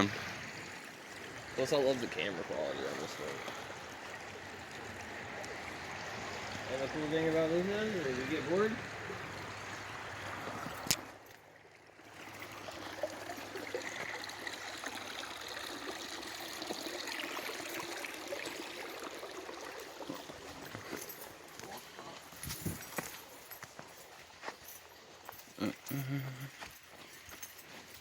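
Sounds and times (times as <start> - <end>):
stream water trickling: 0.0 - 28.0.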